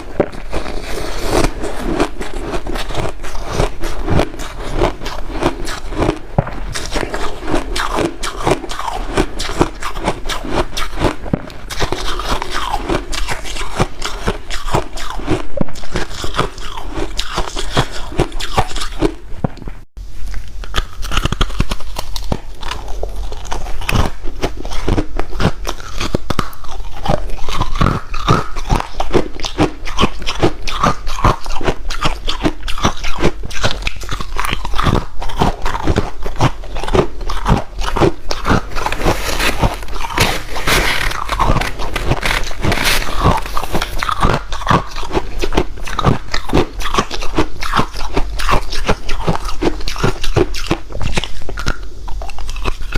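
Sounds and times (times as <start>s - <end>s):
person chewing crunchy ice: 0.0s - 52.9s.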